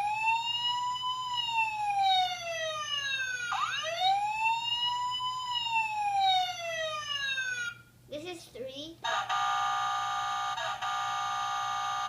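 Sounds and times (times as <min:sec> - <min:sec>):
toy electronic siren wail: 0:00.0 - 0:07.8, 0:09.1 - 0:12.0.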